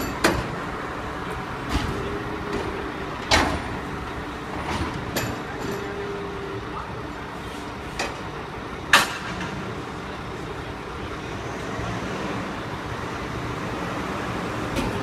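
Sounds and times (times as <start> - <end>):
garbage truck running: 0.0 - 15.0.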